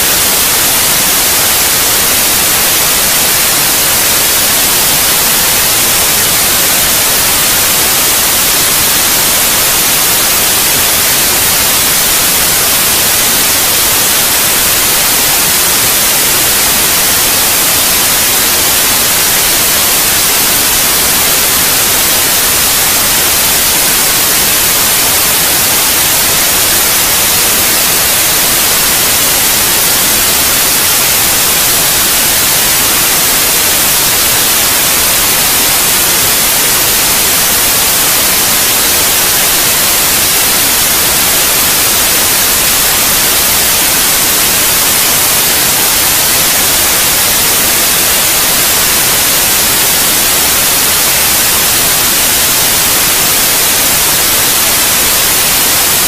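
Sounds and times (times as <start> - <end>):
loud white noise hiss: 0.0 - 56.0.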